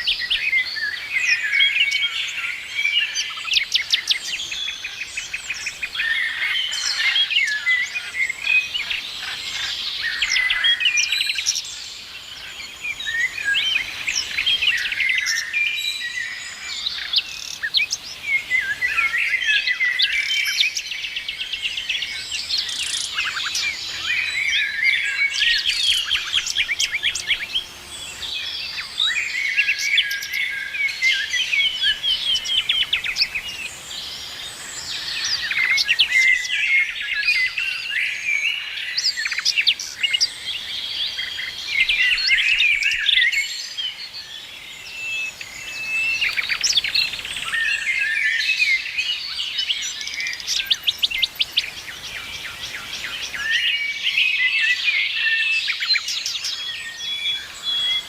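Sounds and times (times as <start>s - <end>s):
songbirds chirping and singing: 0.0s - 58.0s.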